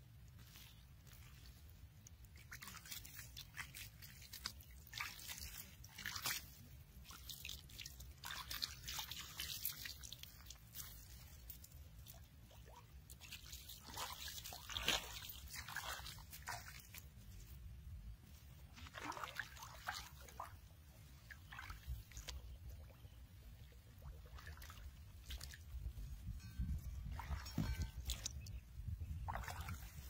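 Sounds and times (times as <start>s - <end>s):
hand squelching wet mud: 0.0s - 26.1s, 27.0s - 30.0s.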